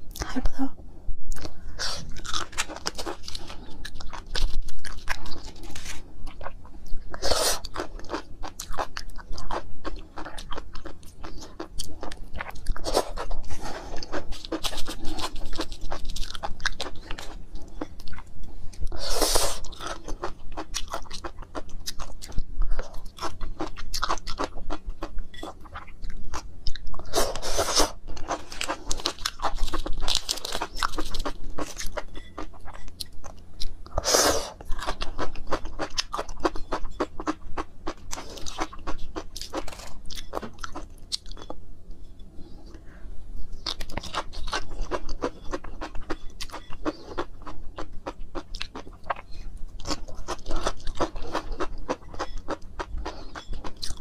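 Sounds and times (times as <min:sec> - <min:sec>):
chewing crunchy food: 0:01.4 - 0:41.6, 0:43.6 - 0:54.0.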